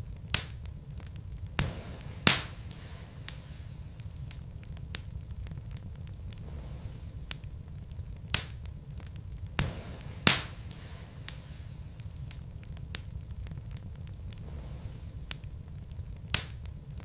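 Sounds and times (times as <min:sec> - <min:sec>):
fire popping and ticking: 0:00.0 - 0:17.0
low rumble of burning logs: 0:00.0 - 0:17.0.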